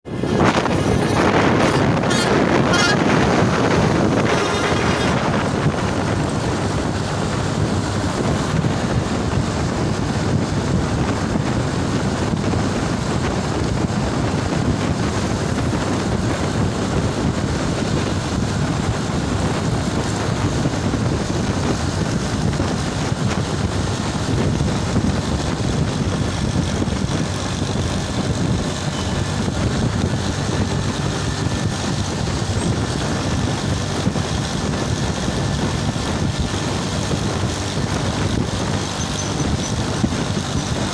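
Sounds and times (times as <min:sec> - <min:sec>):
motorcycle engine rumble: 0:00.0 - 0:40.9
wind on microphone: 0:00.0 - 0:40.9.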